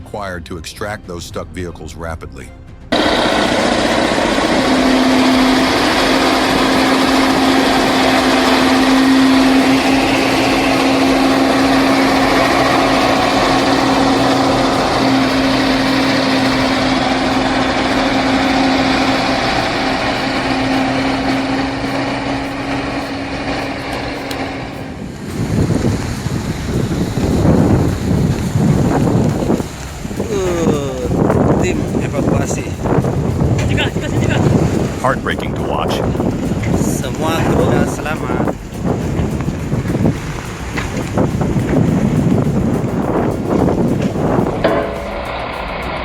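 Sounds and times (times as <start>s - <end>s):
heavy vehicle engine droning: 2.4s - 46.0s.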